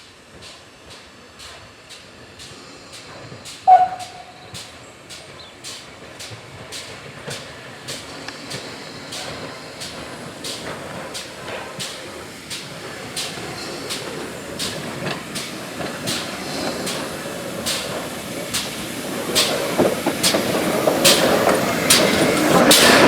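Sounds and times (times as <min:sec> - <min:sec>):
train running rumble: 0:00.0 - 0:23.0
train wheels clicking over rail joints: 0:00.0 - 0:23.0.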